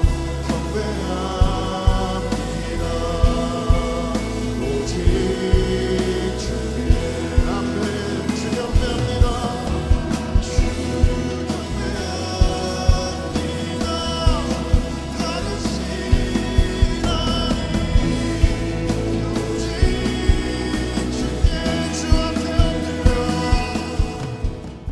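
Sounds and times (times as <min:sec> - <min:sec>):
person singing: 0:00.0 - 0:24.9
worship band playing: 0:00.0 - 0:24.9.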